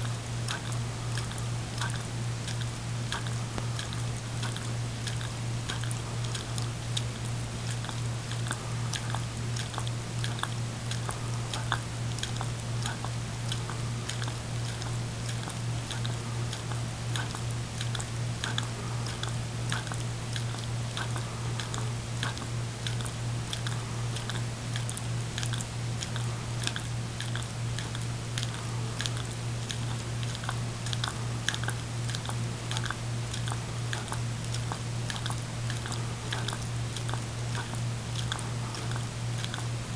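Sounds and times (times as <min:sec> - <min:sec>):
dog licking and smacking: 0:00.0 - 0:39.9.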